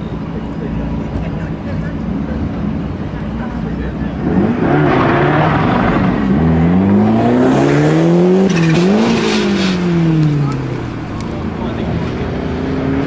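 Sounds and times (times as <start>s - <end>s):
race car engine accelerating: 2.1s - 13.0s.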